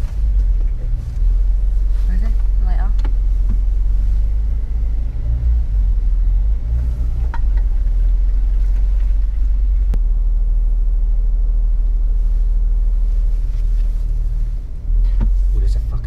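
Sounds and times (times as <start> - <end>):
off-road vehicle engine rumble: 0.0 - 16.0.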